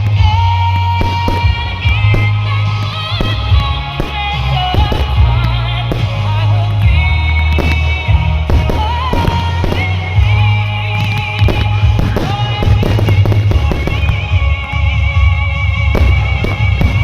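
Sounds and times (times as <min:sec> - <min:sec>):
fireworks bangs and crackles: 0:00.0 - 0:17.0
loud music with strong bass: 0:00.0 - 0:17.0.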